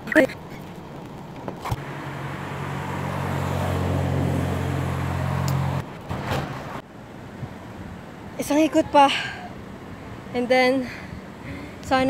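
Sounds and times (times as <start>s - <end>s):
road traffic noise: 0.0s - 12.0s
vehicle engine humming: 0.0s - 12.0s.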